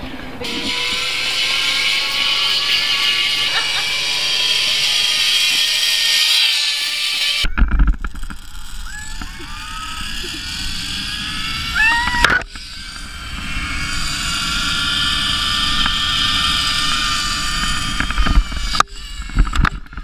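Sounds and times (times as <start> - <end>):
zip line pulley whirring: 0.4 - 20.0.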